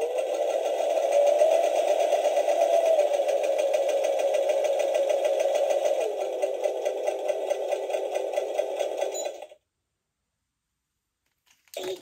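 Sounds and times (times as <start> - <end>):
toy sewing machine clatter: 0.0 - 9.6, 11.7 - 12.0.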